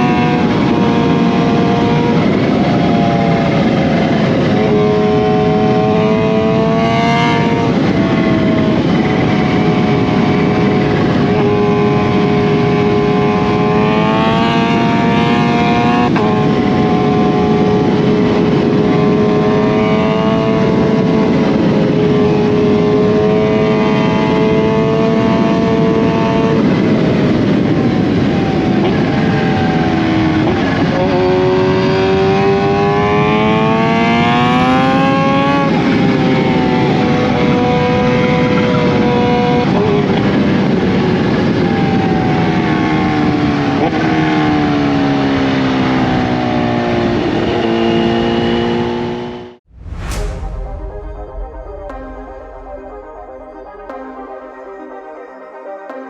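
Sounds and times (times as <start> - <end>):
motorcycle engine accelerating: 0.0 - 54.4.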